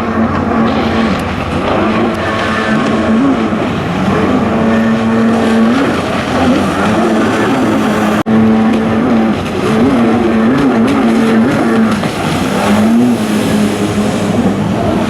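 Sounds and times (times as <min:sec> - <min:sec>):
jet ski engine revving: 0:00.0 - 0:15.0.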